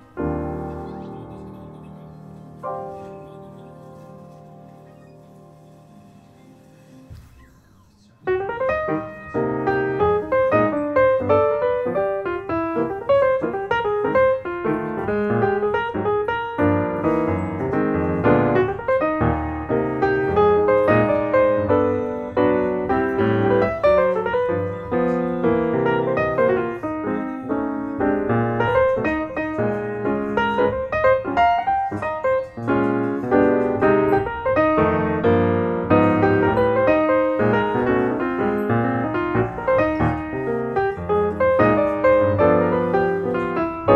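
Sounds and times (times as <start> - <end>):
piano music: 0.0 - 7.4, 8.2 - 43.9.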